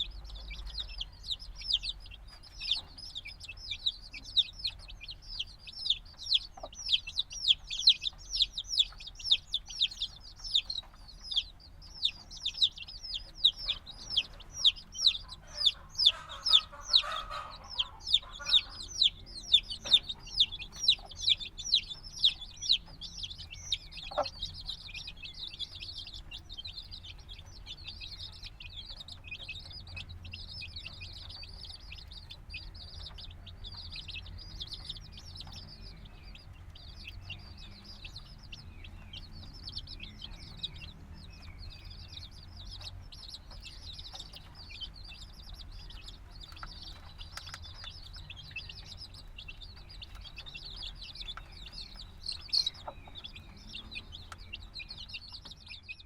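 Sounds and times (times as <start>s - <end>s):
chicks cheeping: 0.0s - 56.0s.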